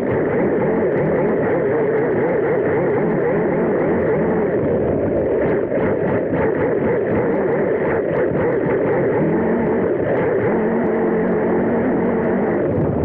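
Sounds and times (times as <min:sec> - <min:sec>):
rc car motor whining: 0:00.0 - 0:13.0.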